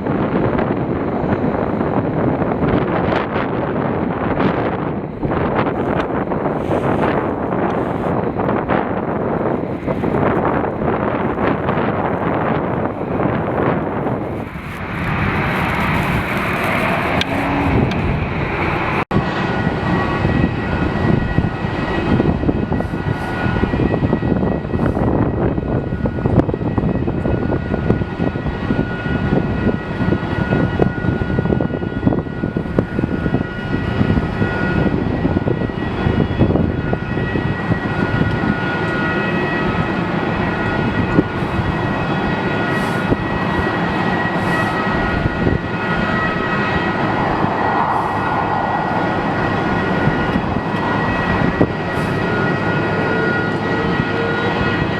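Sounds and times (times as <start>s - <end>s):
jet engines rumbling and whining: 0.0s - 54.9s.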